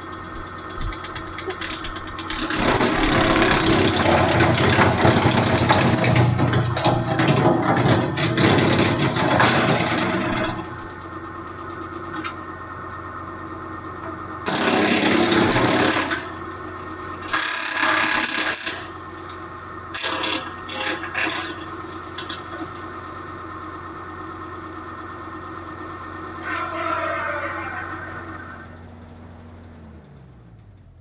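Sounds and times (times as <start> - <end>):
wood chipper crunching branches: 0.0 - 25.1, 25.7 - 29.1
engine and pump hum: 0.0 - 31.0.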